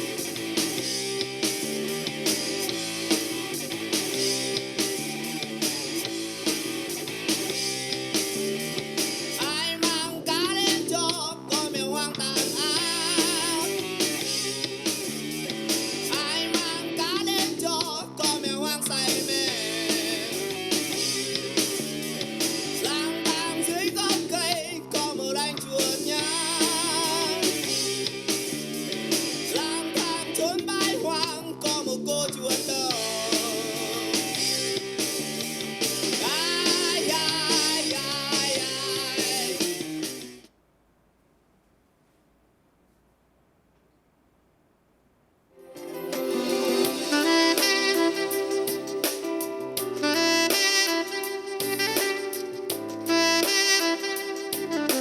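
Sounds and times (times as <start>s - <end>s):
pop-rock song from small speaker: 0.0s - 40.5s, 45.6s - 55.0s.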